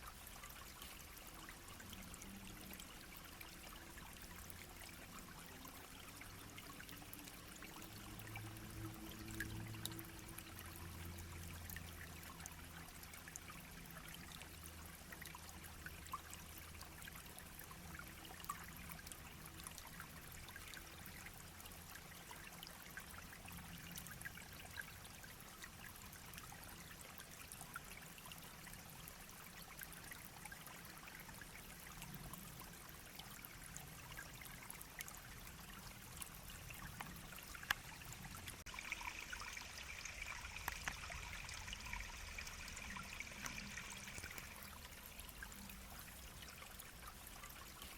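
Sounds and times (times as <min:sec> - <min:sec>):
brook babbling: 0:00.0 - 0:47.9
small splashes and drips: 0:00.0 - 0:47.9.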